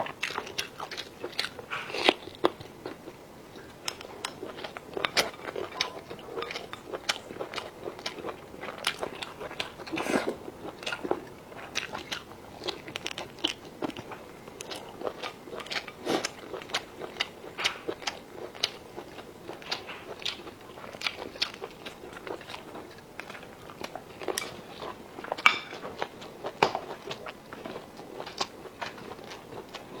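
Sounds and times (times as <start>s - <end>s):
person chewing crunchy food: 0.0s - 30.0s.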